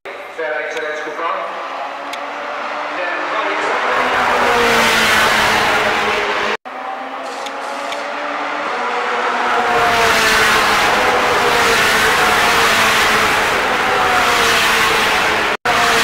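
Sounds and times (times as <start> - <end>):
race car engine at high revs: 1.4 - 16.0.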